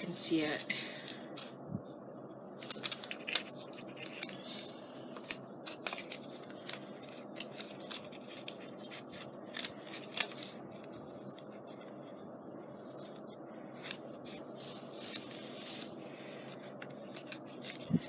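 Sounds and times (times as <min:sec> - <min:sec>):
paper and card rustling: 0:02.6 - 0:12.2, 0:13.0 - 0:18.0.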